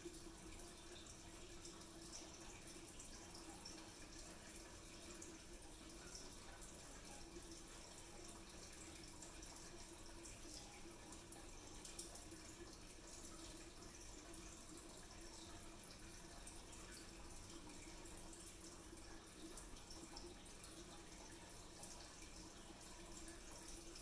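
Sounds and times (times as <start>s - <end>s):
faint room hiss: 0.0s - 24.0s.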